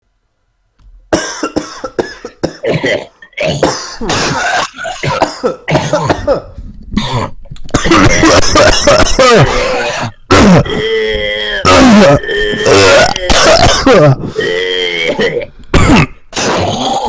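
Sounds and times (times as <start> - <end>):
person coughing hard: 1.1 - 17.0.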